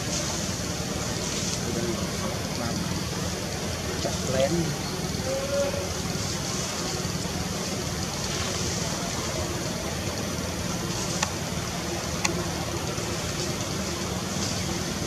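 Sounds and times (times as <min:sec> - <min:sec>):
even hiss: 0:00.0 - 0:15.0.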